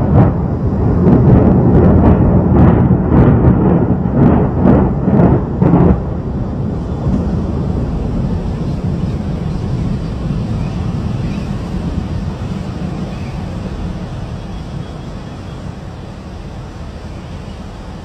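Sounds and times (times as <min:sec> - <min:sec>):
deep demolition rumble: 0:00.0 - 0:18.0.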